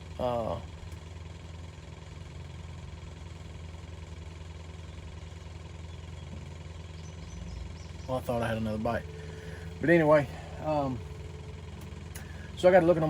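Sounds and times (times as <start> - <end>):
engine drone at idle: 0.0 - 13.0.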